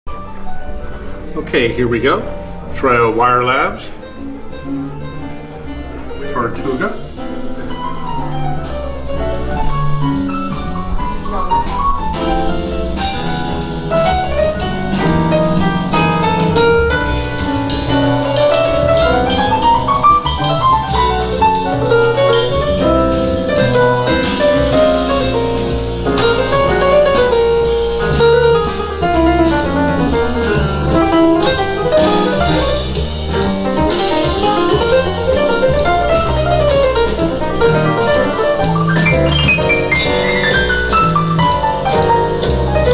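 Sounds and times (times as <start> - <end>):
jazz piano: 0.0 - 42.9.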